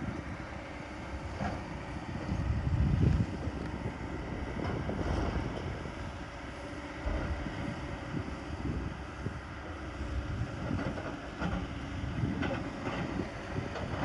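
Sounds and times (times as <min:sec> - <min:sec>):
diesel machinery low rumble: 0:00.0 - 0:14.0.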